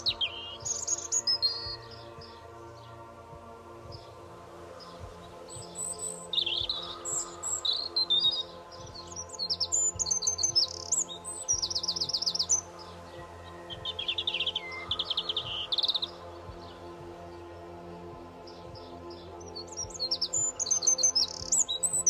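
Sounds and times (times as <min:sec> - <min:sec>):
soft background music: 0:00.0 - 0:22.0
songbird chirps and trills: 0:00.0 - 0:22.0.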